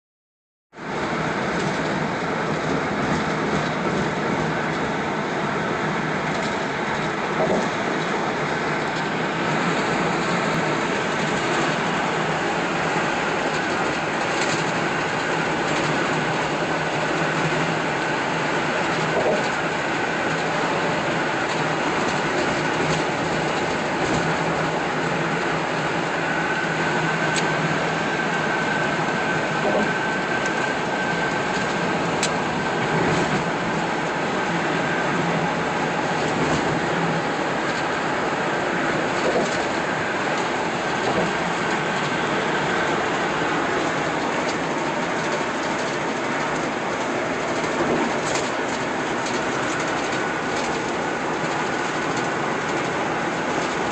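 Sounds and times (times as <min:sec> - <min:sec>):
car road and tyre noise: 0:00.8 - 0:53.9.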